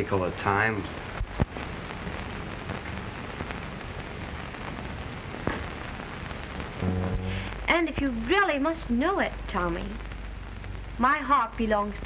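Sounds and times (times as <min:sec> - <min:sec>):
film soundtrack hiss and crackle: 0:00.0 - 0:12.0.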